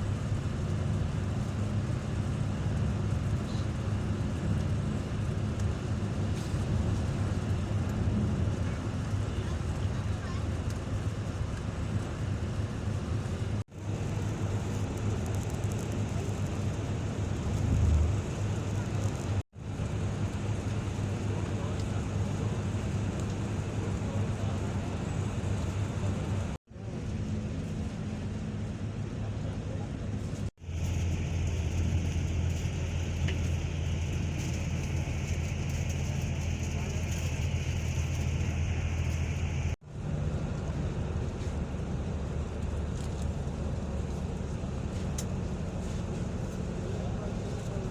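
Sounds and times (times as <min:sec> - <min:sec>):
low engine hum: 0:00.0 - 0:47.9
moving vehicle low rumble: 0:00.0 - 0:47.9
road noise: 0:00.0 - 0:47.9.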